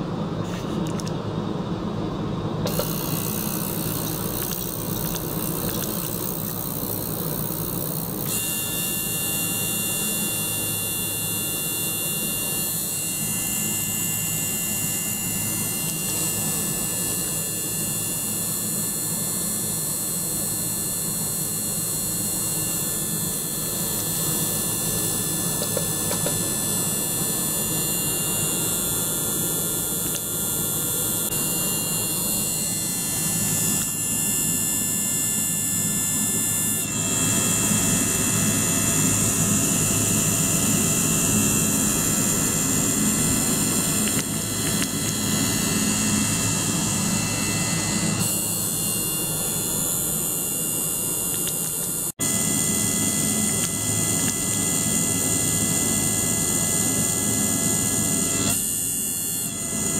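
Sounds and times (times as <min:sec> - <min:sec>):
ultrasonic cleaner hissing and whining: 0:02.0 - 0:59.9.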